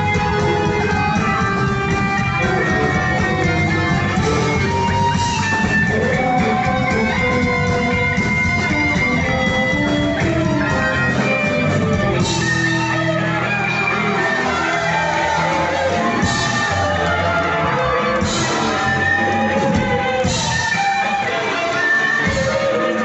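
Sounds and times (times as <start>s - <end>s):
electric guitar: 0.0s - 23.0s
rock band playing: 0.0s - 23.0s.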